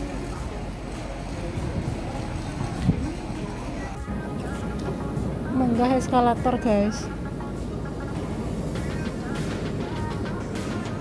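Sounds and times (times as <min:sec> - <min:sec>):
escalator rumble and hum: 0:00.0 - 0:11.0.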